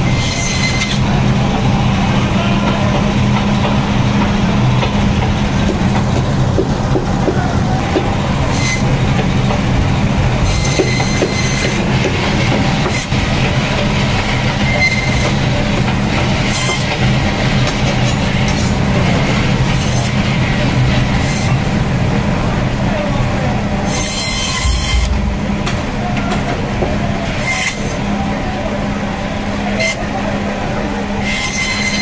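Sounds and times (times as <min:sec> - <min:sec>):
band saw humming: 0:00.0 - 0:22.8, 0:23.6 - 0:28.4.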